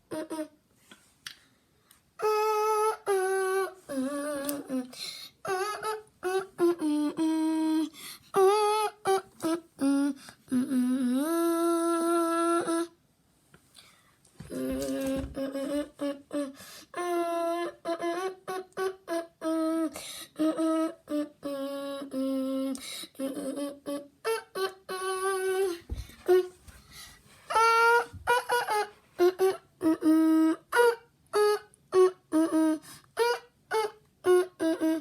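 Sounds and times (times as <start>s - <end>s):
person humming a melody: 0.0s - 0.6s, 2.2s - 13.0s, 14.4s - 26.6s, 27.5s - 35.0s.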